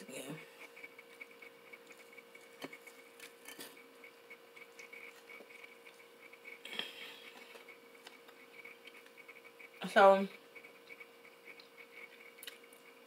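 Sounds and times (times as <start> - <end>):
faint steady hum: 0.0 - 13.0
person chewing: 0.7 - 9.8, 10.5 - 13.0.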